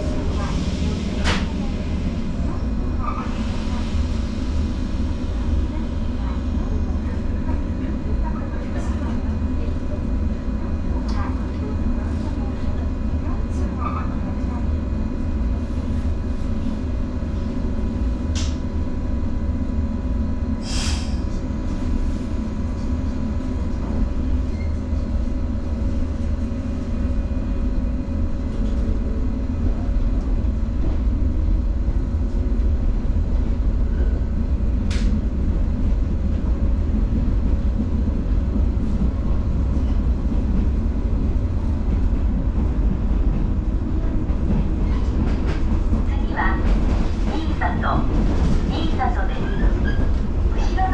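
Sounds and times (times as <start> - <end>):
train wheels and motors rumbling: 0.0 - 50.9.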